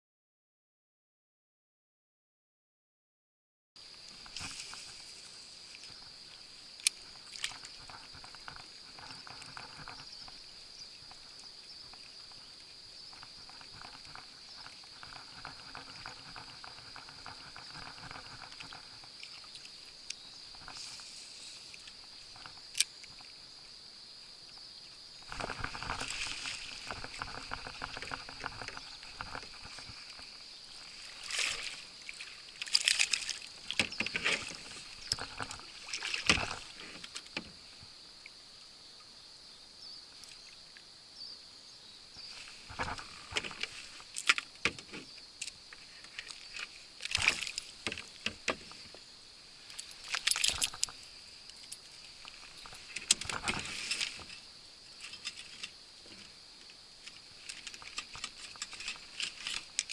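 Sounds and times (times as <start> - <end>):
water sloshing around kayak: 3.9 - 23.8, 24.5 - 38.3, 42.1 - 59.9.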